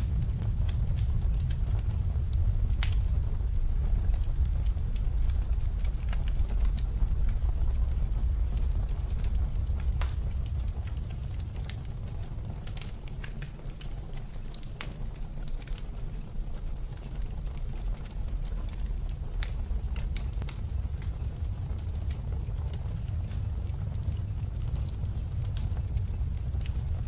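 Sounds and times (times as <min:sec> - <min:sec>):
blizzard wind rumbling: 0:00.0 - 0:27.0
wood fire crackling and popping: 0:00.0 - 0:27.0.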